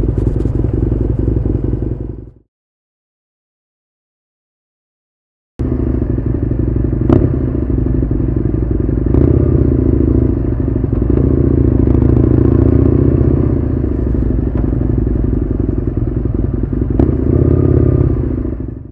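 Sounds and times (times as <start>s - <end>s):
motorcycle engine running: 0.0s - 2.4s, 5.6s - 18.9s.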